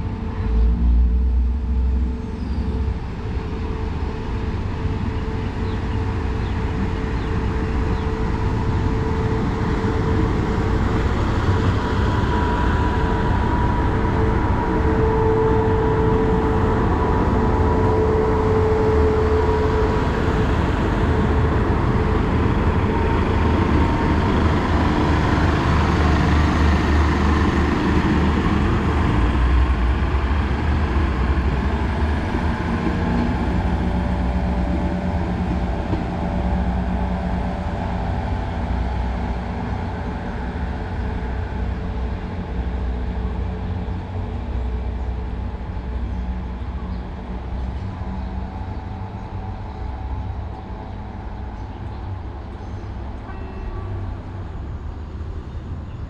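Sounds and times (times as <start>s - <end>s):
diesel train rumbling: 0.0s - 56.0s.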